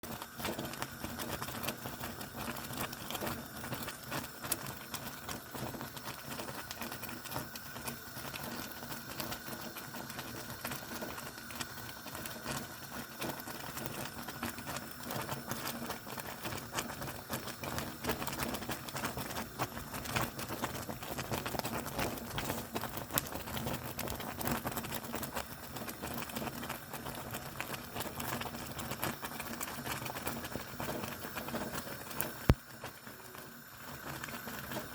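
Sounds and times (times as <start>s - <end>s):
thick porridge bubbling and popping: 0.0s - 34.9s.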